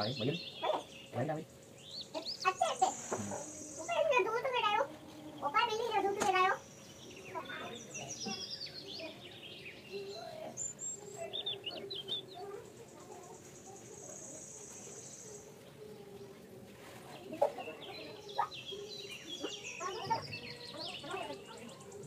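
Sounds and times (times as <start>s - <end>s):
high bird trill: 0.0s - 15.5s, 17.8s - 22.0s
birds chirping: 0.0s - 22.0s.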